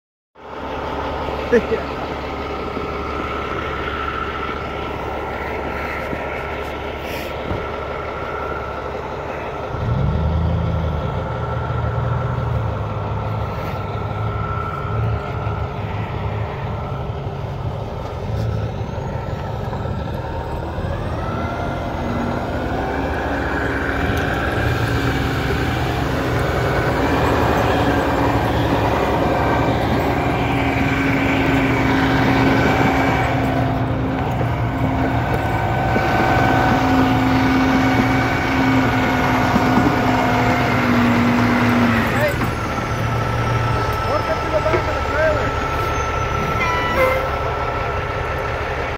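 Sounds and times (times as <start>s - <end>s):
diesel truck engine revving: 0.4s - 48.9s.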